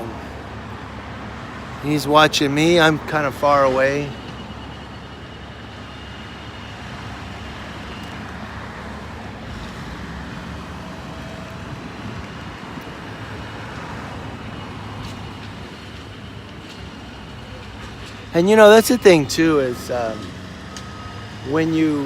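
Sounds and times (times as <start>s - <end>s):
cars and trucks passing: 0.0s - 22.0s.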